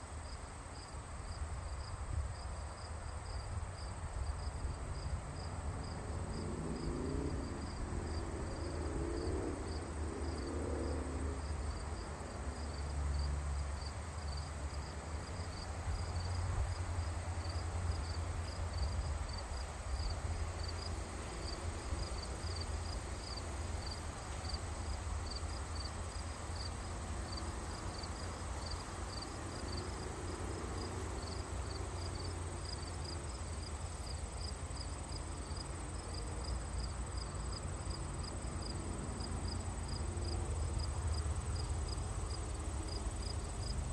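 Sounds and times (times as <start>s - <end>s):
insect chirping: 0.2s - 43.9s.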